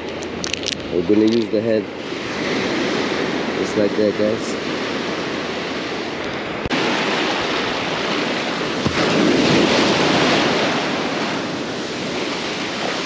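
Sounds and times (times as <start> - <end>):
wind on microphone: 0.0 - 13.0
ocean surf washing onto beach: 0.1 - 13.0.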